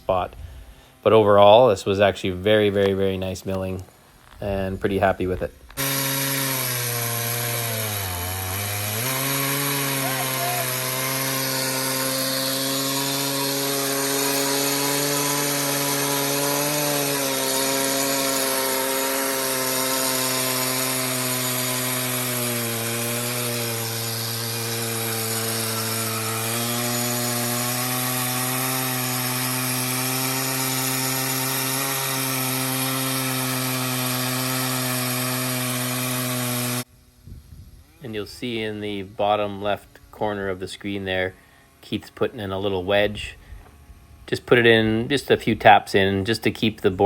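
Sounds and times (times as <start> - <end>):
chainsaw cutting log: 2.3 - 47.0.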